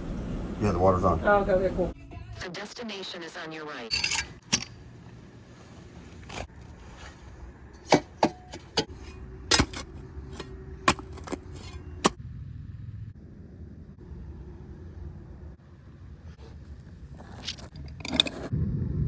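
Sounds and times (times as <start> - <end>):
low steady rumble: 0.0 - 2.0, 3.9 - 19.0.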